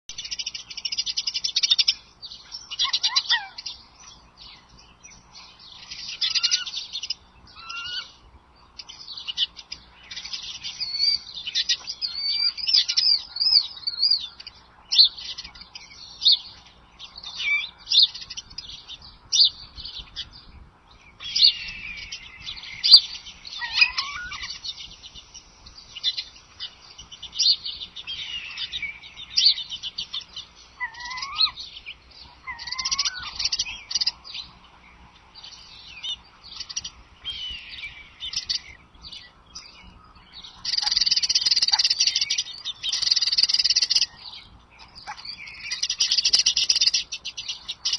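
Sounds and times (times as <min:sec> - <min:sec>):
birds chirping and singing: 0:00.1 - 0:47.9.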